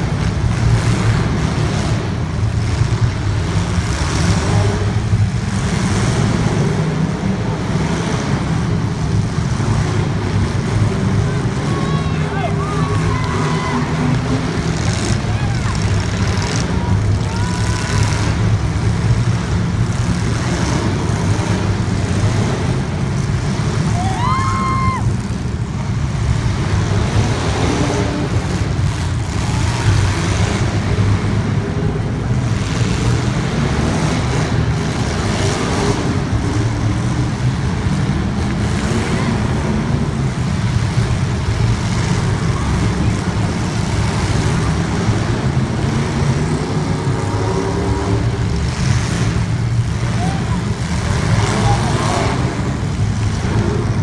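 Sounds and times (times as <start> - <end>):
racing car engines droning: 0.0 - 54.0.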